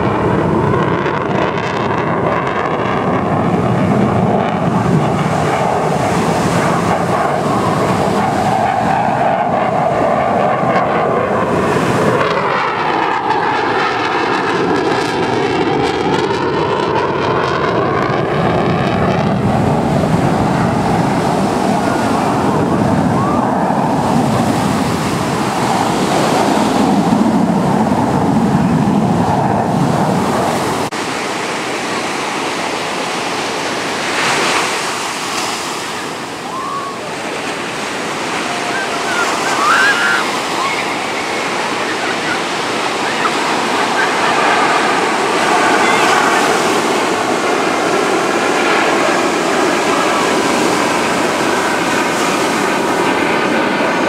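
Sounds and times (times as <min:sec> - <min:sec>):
fighter jet engines roaring: 0:00.0 - 0:54.0
jet passing whoosh: 0:00.0 - 0:54.0.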